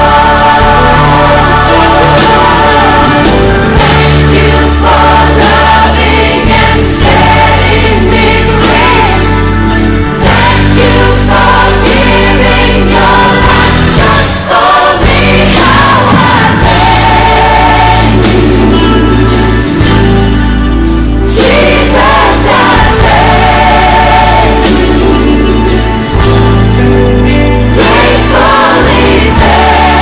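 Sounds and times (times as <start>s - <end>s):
choir singing: 0.0s - 20.4s, 21.2s - 26.8s, 27.6s - 30.0s
instrumental accompaniment: 0.0s - 30.0s.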